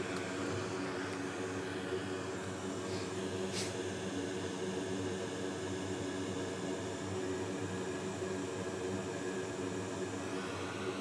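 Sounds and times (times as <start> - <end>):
electrical hum: 0.0 - 11.0
fan whirring and hissing: 0.0 - 11.0.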